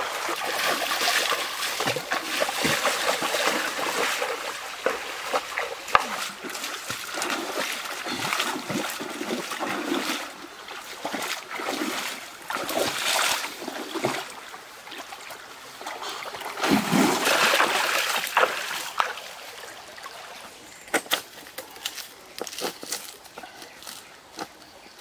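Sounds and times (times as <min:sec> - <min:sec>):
running water: 0:00.0 - 0:21.6
person wading through stream: 0:00.0 - 0:24.2.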